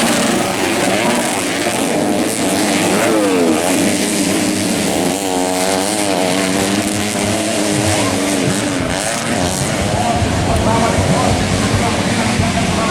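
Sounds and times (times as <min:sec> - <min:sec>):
dirt bike engines revving: 0:00.0 - 0:12.9.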